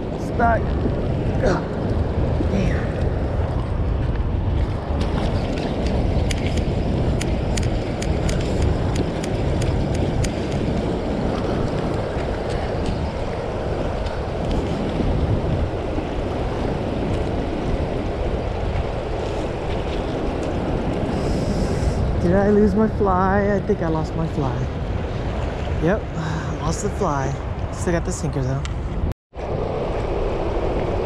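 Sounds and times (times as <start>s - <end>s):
churning river water: 0.0s - 28.0s
wind buffeting microphone: 0.0s - 31.0s.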